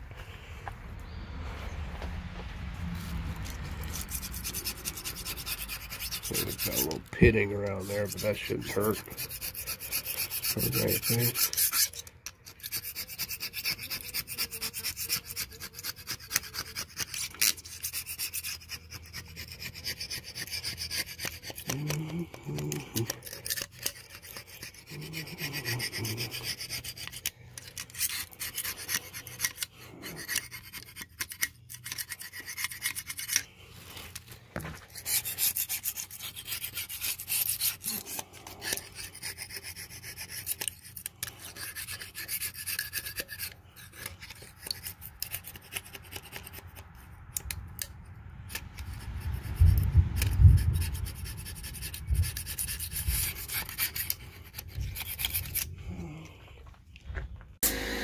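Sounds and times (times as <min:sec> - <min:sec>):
blade scraping gasket off metal: 0:03.0 - 0:55.8.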